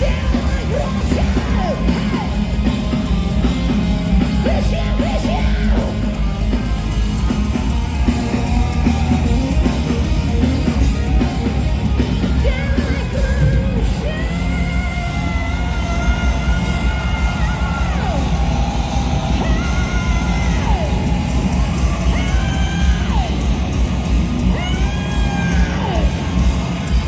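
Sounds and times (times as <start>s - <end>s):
live heavy rock band: 0.0s - 27.0s.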